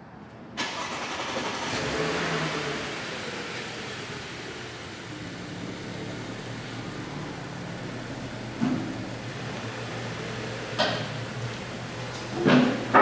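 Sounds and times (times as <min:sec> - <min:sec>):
car engine idling: 0:00.6 - 0:13.0.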